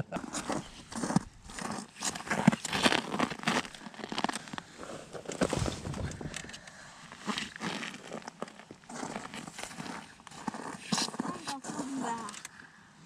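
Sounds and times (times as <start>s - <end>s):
jacket rubbing: 0.1s - 12.1s
boots on snow-covered ice: 0.1s - 12.3s.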